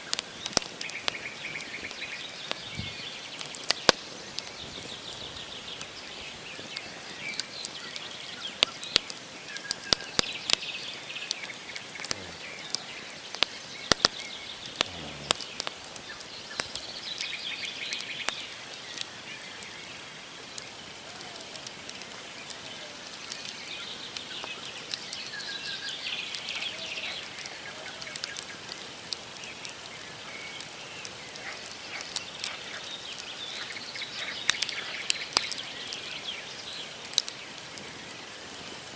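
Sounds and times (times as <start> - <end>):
campfire crackling and popping: 0.0 - 38.9
small birds chirping: 0.1 - 38.9.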